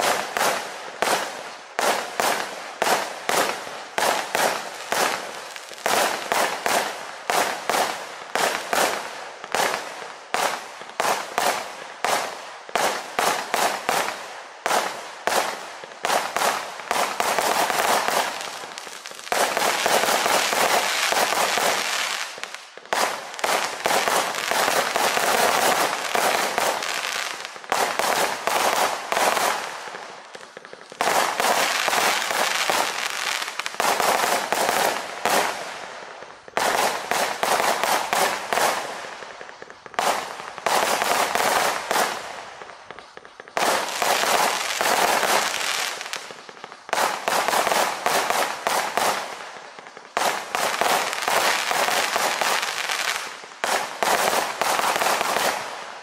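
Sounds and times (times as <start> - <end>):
fireworks firing in volleys: 0.0 - 56.0.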